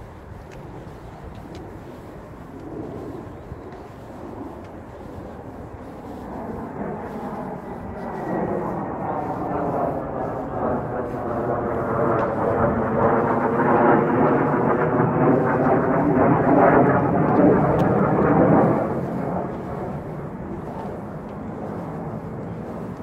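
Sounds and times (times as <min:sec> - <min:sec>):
loud engine drone passing: 0:00.7 - 0:23.0.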